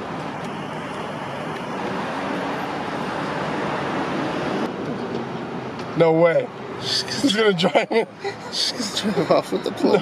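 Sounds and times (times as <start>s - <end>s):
road traffic hiss: 0.0s - 10.0s.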